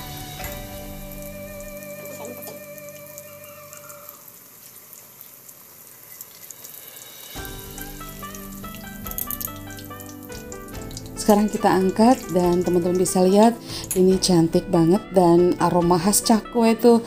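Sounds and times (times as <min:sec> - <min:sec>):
background music: 0:00.0 - 0:04.1, 0:07.2 - 0:17.0
dough sizzling in hot oil: 0:00.0 - 0:16.5.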